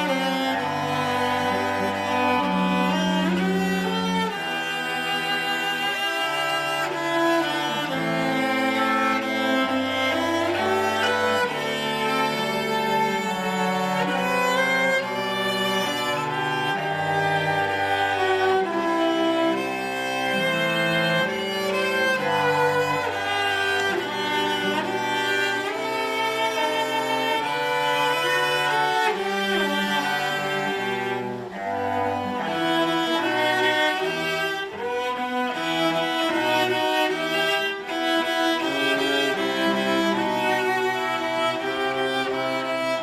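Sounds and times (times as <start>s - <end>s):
cello ensemble playing: 0.0s - 43.0s.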